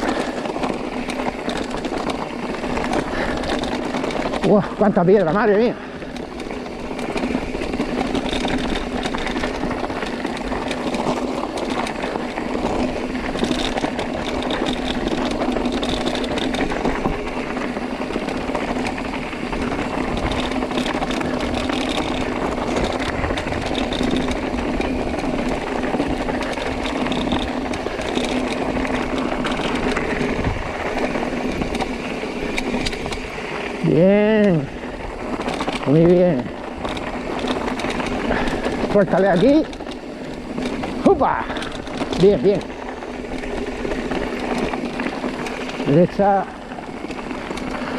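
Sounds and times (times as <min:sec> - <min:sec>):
bike frame and chain rattling: 0:00.0 - 0:47.9
tyres crunching over loose rock: 0:00.0 - 0:47.9.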